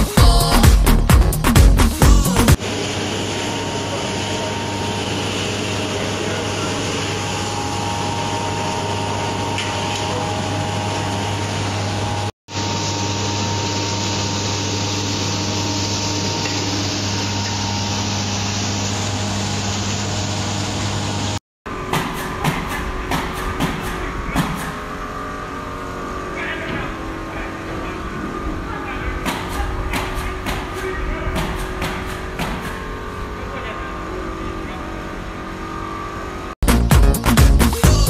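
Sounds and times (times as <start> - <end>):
extruder machine humming: 0.0 - 36.6.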